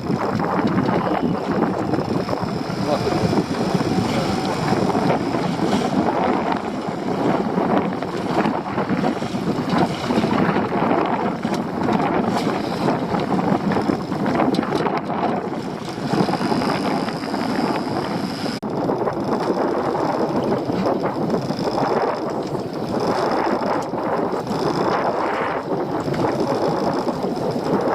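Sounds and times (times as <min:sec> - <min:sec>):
rush of boat and sea: 0:00.0 - 0:27.9
wind buffeting microphone: 0:00.0 - 0:27.9.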